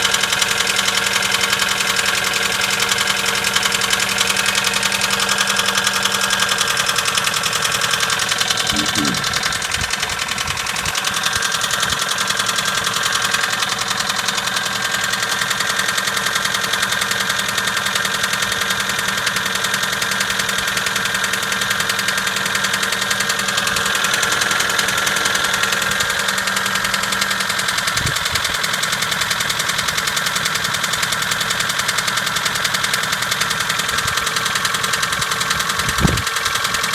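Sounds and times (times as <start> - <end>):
engine idling with rhythmic knock: 0.0 - 36.9.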